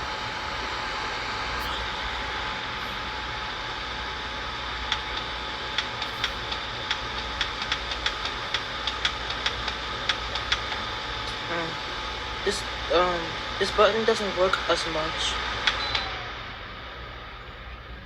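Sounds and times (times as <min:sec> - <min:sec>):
air cooler fan humming: 0:00.0 - 0:18.0.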